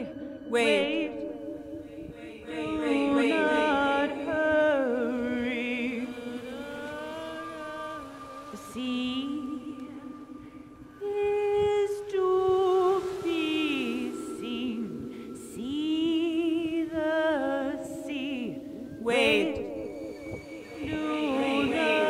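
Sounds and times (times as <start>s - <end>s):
steady held tone: 0.0s - 22.0s
woman singing wordlessly: 0.0s - 22.0s.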